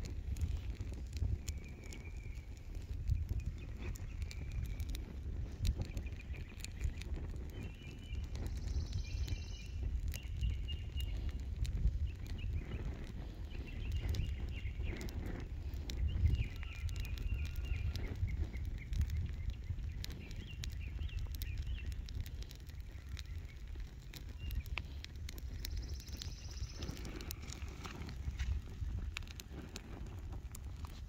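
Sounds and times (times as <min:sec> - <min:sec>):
fire crackling and popping: 0:00.0 - 0:31.0
wind rumble on microphone: 0:00.0 - 0:31.0.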